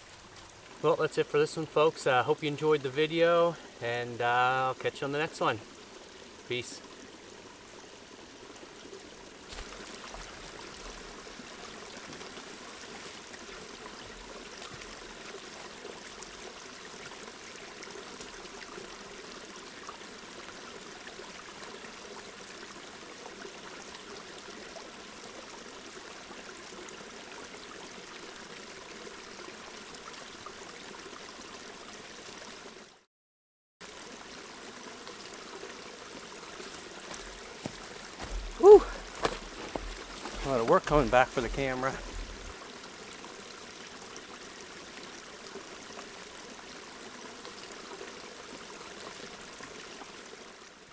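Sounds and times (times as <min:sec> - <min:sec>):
brook babbling over rocks: 0:00.0 - 0:33.0, 0:33.8 - 0:50.9.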